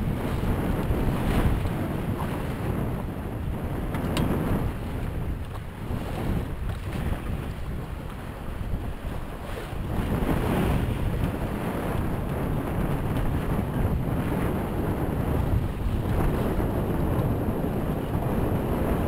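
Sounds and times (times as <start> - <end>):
water rushing along hulls: 0.0 - 19.0
wind buffeting microphone: 0.0 - 19.0.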